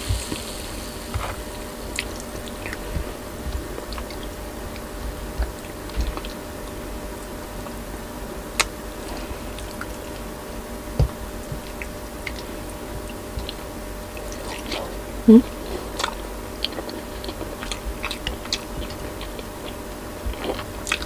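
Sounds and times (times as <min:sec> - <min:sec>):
close chewing mouth sounds: 0:00.0 - 0:07.8, 0:11.4 - 0:21.0
steady low hum: 0:00.0 - 0:21.0.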